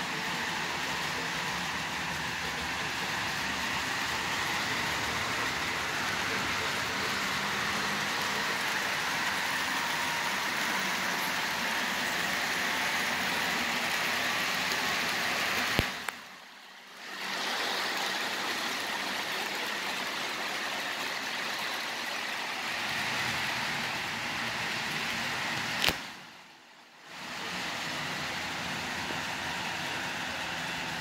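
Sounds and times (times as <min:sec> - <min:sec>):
model locomotive humming: 0:00.0 - 0:26.0, 0:27.1 - 0:31.0.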